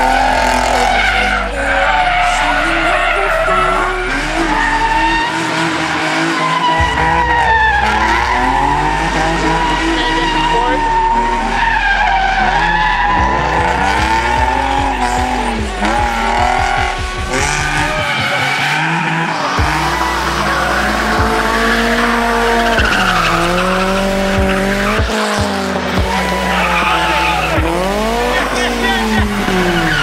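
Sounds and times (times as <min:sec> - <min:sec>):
car engines revving hard: 0:00.0 - 0:30.0
tyres squealing: 0:00.0 - 0:30.0.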